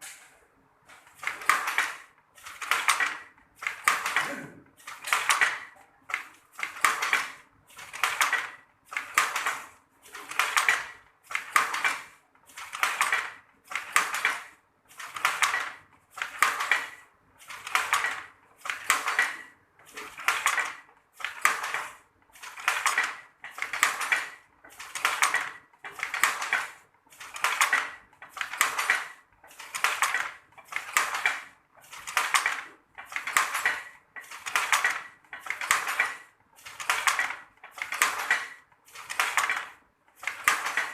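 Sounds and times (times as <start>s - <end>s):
wooden loom clacking: 0.9s - 40.9s.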